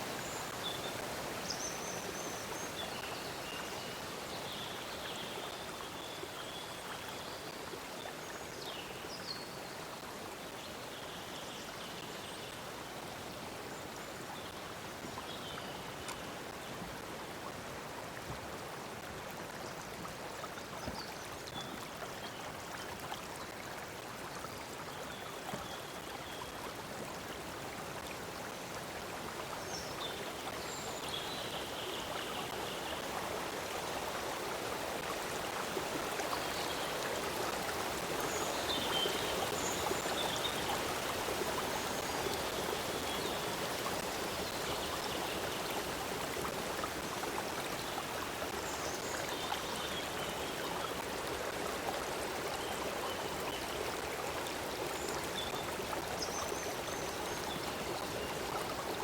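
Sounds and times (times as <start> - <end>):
stream of water flowing: 0.0 - 59.0.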